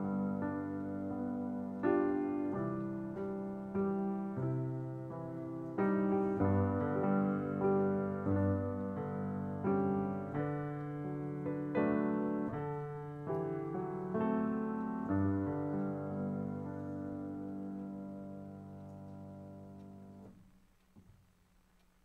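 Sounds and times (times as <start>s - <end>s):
piano chords: 0.0s - 20.6s.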